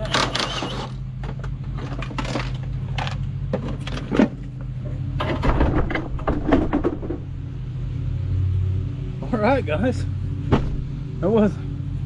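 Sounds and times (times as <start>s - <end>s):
steady low hum: 0.7s - 12.0s.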